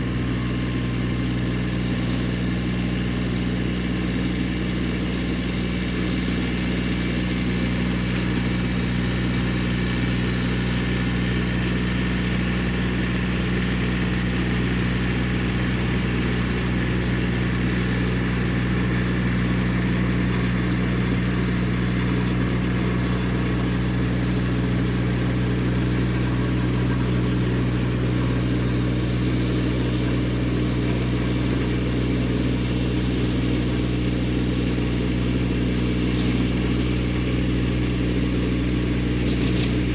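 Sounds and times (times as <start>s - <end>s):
tiller working the ground: 0.0s - 39.9s
tractor diesel engine running: 0.0s - 39.9s.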